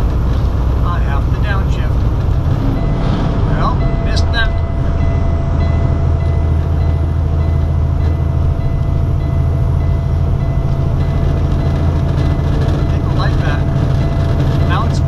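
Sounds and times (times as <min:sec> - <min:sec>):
truck engine drone with road noise: 0:00.0 - 0:15.0.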